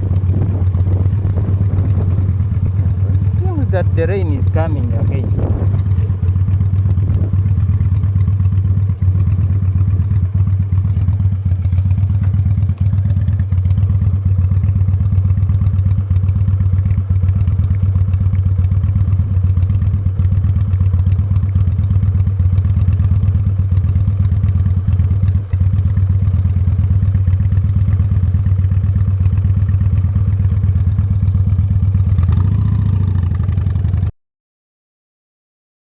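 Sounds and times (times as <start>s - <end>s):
motorcycle engine running: 0.0s - 34.1s.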